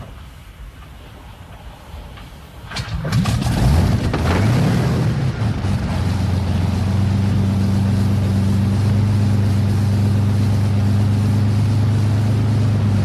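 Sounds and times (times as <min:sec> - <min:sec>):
aircraft engine starting: 0:00.0 - 0:13.0.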